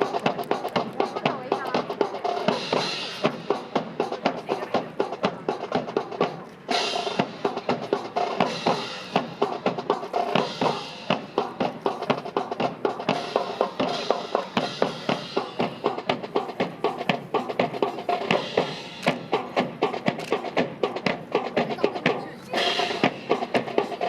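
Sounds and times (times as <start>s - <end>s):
drum-led band music: 0.0s - 24.0s.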